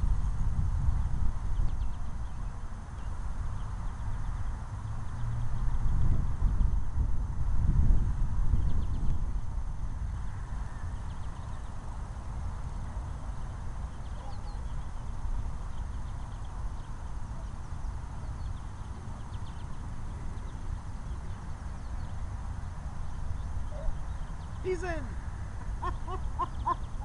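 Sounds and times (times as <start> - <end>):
wind rumbling on microphone: 0.0 - 27.0
small birds chirping: 1.0 - 6.0, 8.0 - 9.2, 10.2 - 27.0.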